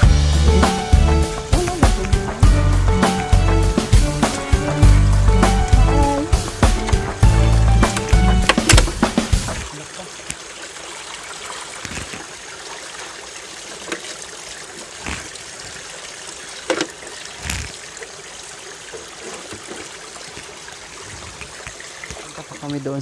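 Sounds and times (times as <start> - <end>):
water trickling into a pipe: 0.0 - 23.0
splashes and knocks: 0.8 - 18.1, 18.8 - 22.8.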